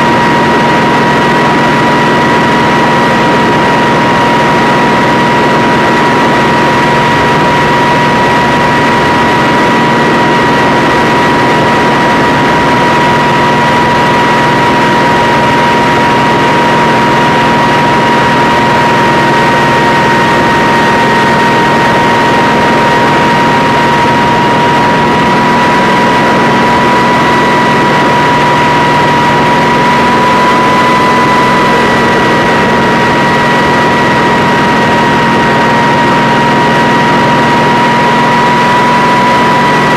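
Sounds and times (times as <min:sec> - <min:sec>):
helicopter engines running: 0:00.0 - 0:39.9.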